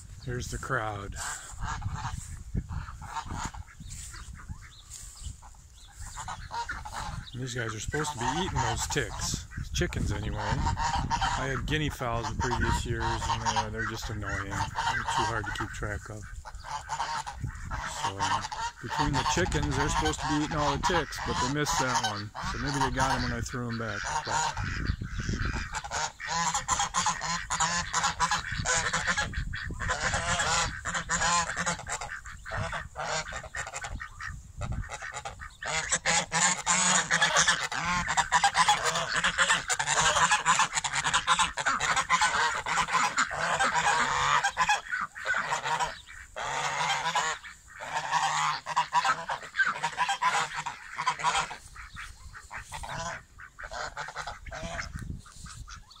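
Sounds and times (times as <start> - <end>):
geese honking: 0.0 - 56.0.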